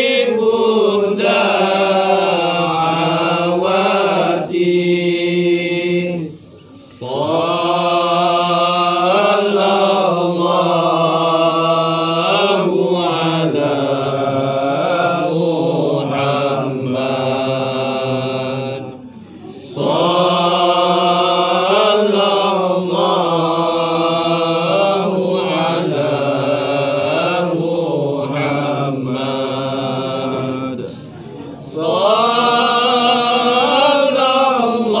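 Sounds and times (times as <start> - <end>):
men chanting together: 0.0 - 35.0.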